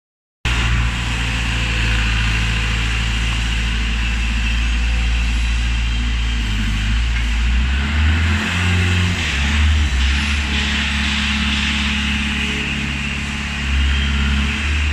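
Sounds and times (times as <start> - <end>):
loader engine running: 0.5 - 14.9.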